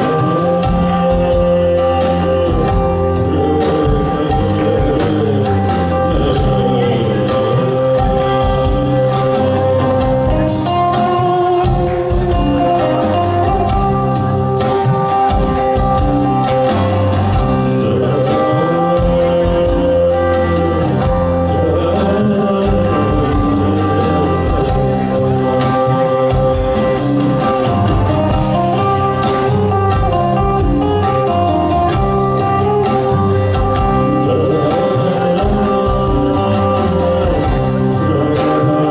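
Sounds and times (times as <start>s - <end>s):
drum beats: 0.0s - 38.9s
rock band playing live: 0.0s - 38.9s.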